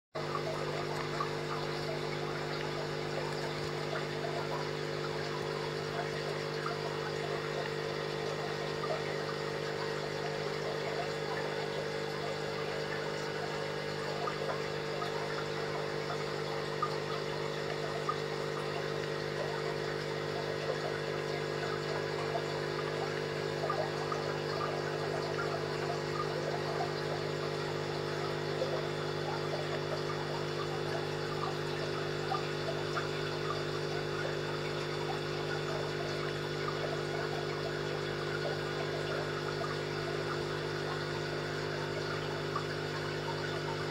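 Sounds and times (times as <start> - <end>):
aquarium pump humming: 0.2 - 43.9
water trickling and bubbling: 0.2 - 43.9.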